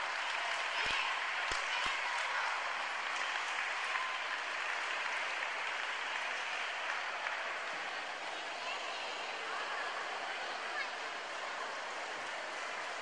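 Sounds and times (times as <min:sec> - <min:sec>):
audience applauding: 0:00.0 - 0:08.8, 0:10.8 - 0:13.0.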